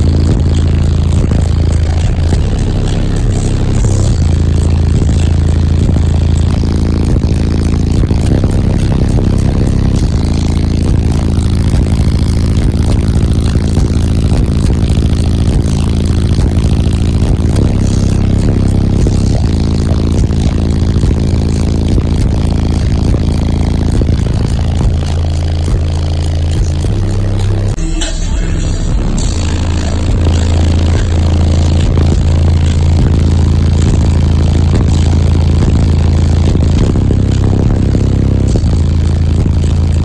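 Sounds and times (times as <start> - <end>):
buzzing overtones: 0.0 - 40.0
subwoofer bass note: 0.0 - 40.0.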